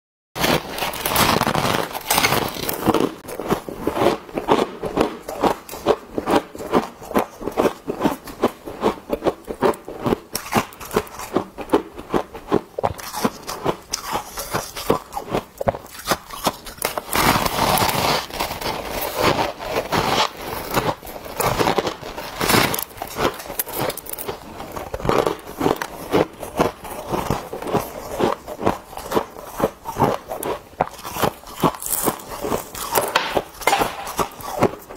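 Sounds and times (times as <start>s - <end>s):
frost being chewed: 0.4s - 34.9s.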